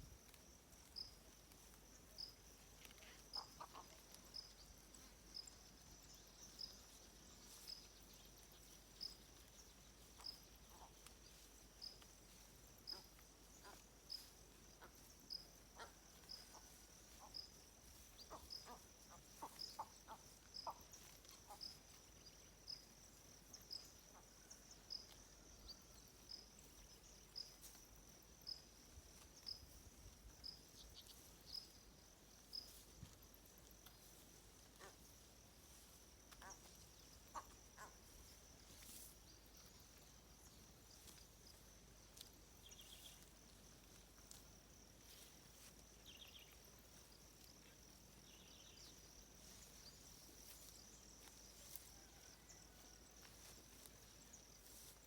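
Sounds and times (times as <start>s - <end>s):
insect buzz: 0.0s - 55.0s
insect chirp: 0.0s - 55.0s.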